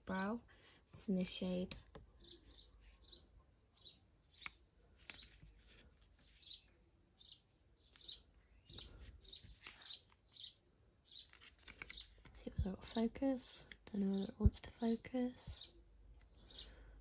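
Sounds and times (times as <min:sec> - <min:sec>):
faint bird chirps: 0:01.4 - 0:13.0, 0:13.9 - 0:17.0.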